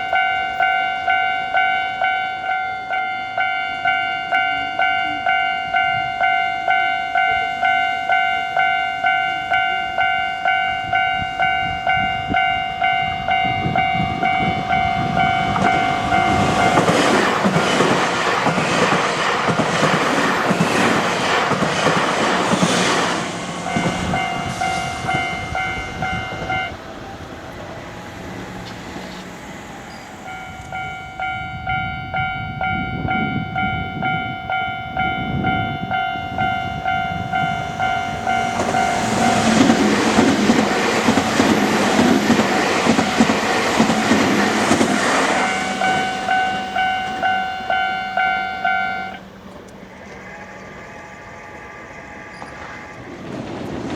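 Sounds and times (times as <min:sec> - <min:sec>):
level crossing warning bell: 0:00.0 - 0:27.2, 0:28.2 - 0:53.2
trains rumbling and clattering: 0:00.0 - 0:53.9.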